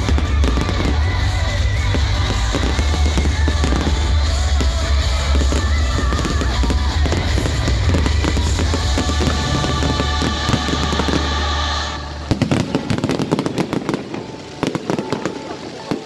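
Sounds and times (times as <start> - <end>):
deep fireworks booms: 0.0 - 16.0
fireworks crackling and popping: 0.0 - 16.0
music playing: 0.0 - 16.0.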